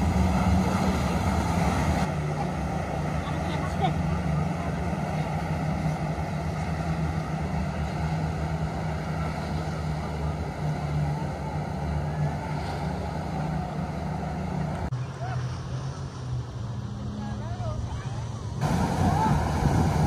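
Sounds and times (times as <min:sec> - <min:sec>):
jet ski engines droning: 0:00.0 - 0:20.0
rushing water spray: 0:00.0 - 0:20.0.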